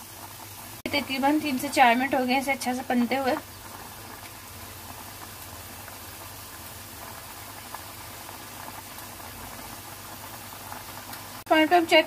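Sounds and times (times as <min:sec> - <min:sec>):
gravy boiling in a pan: 0:00.0 - 0:12.0.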